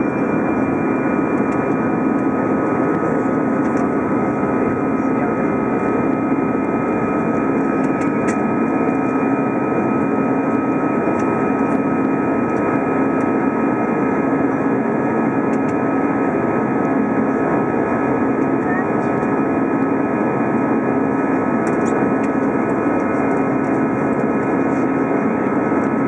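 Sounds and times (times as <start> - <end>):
jet engine and airflow rush: 0.0 - 26.0.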